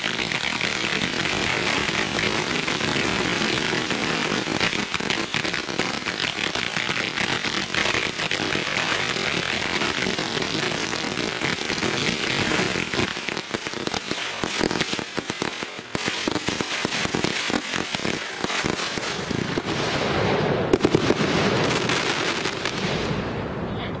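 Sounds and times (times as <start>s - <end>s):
firework fountains hissing and crackling: 0.0s - 23.7s.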